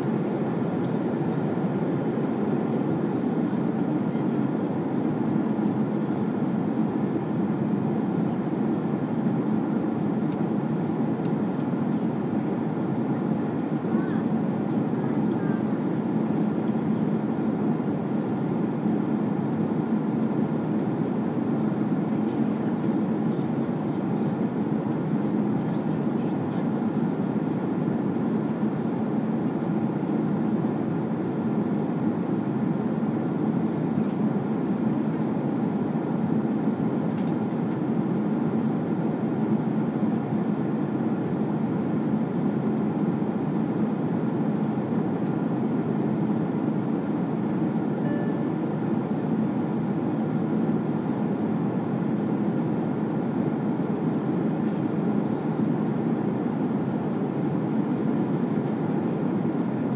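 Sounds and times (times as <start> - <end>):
airliner cabin airflow rush: 0.0 - 59.9.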